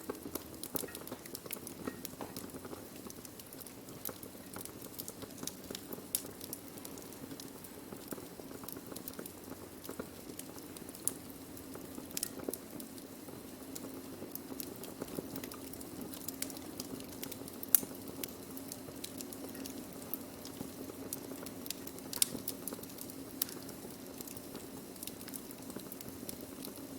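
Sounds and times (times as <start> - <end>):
burning wood crackling: 0.0 - 26.9.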